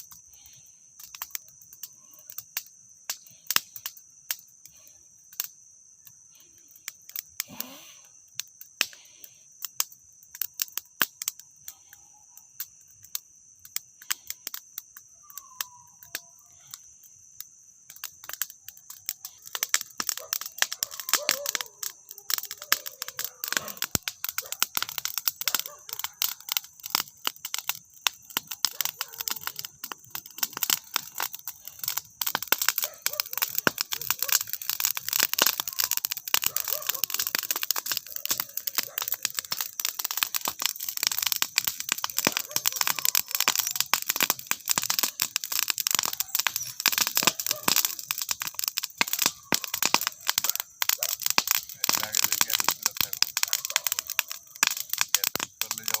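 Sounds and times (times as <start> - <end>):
dry grass burning crackle: 0.0 - 56.0.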